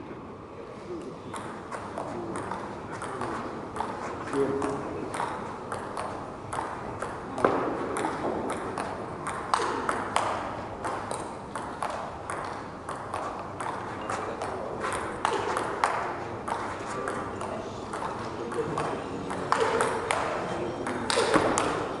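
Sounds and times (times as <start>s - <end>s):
ping pong ball hitting paddles: 1.0s - 22.0s.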